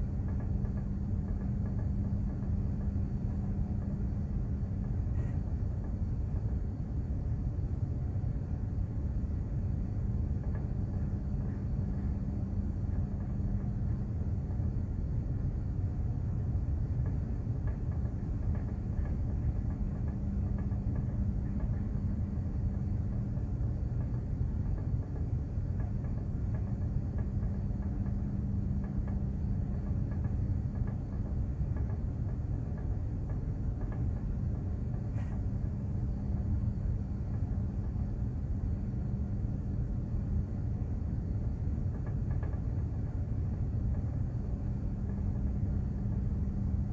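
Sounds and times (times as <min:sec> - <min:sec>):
constant hum: 0:00.0 - 0:46.9
ship rumble: 0:00.0 - 0:46.9.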